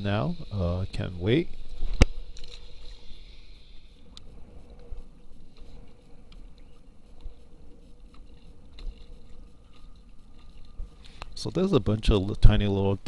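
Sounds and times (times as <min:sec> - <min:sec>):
water lapping against hull: 0:00.0 - 0:13.0
faint clicks: 0:01.5 - 0:12.6.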